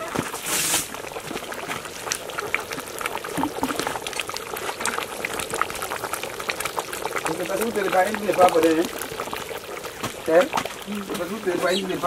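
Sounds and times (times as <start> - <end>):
pot bubbling at a boil: 0.0 - 12.0.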